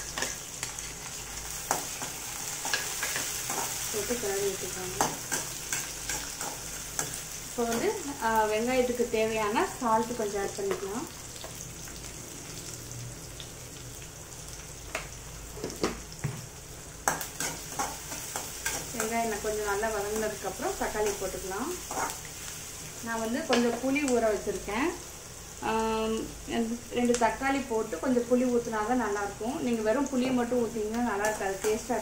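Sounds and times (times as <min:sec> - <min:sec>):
onions sizzling in hot oil: 0:00.0 - 0:32.0.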